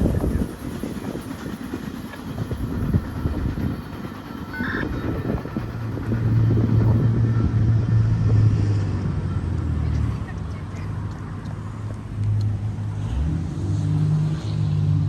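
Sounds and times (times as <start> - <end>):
train rumbling over rails: 0.0 - 15.0
low engine drone: 2.2 - 15.0.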